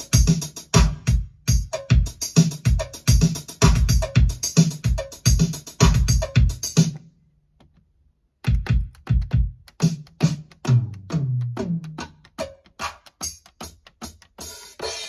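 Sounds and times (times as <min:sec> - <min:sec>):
drum machine pattern: 0:00.0 - 0:07.0, 0:08.4 - 0:15.0.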